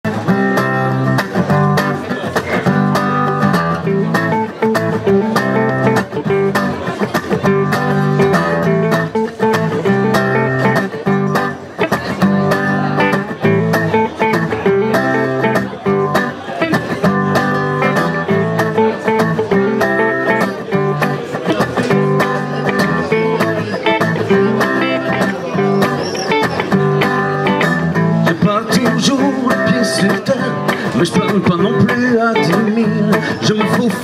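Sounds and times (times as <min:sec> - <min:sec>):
guitars strummed: 0:00.0 - 0:34.0.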